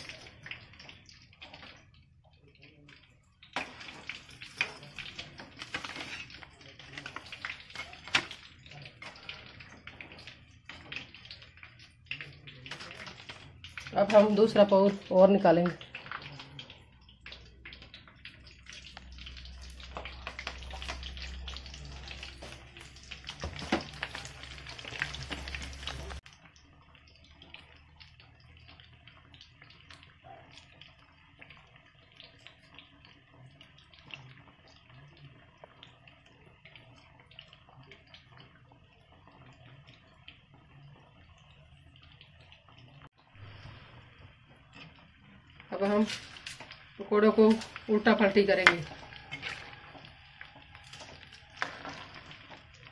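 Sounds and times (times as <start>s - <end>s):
deep-frying sizzle in oil: 0.0s - 52.9s.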